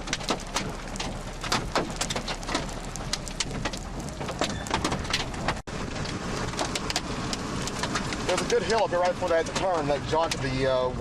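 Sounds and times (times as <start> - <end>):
raindrops tapping: 0.0 - 10.8
steady rain hiss: 0.0 - 10.9.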